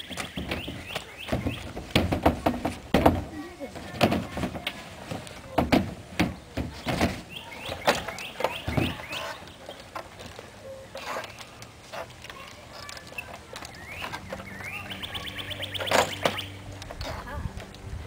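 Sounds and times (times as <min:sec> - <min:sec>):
children clambering on wooden swing set: 0:00.0 - 0:18.0.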